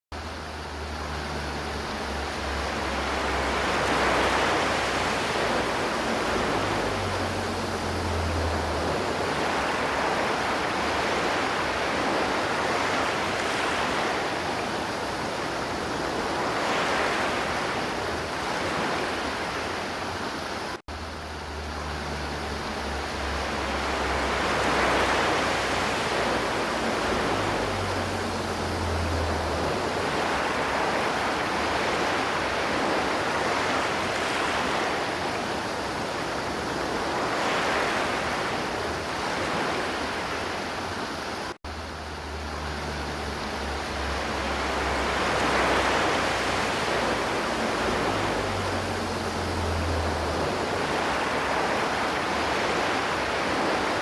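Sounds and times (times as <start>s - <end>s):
river water rushing: 0.2s - 54.0s.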